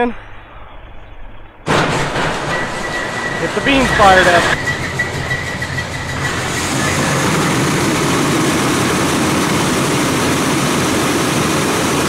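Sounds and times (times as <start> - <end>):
engine running steadily: 1.7 - 12.0.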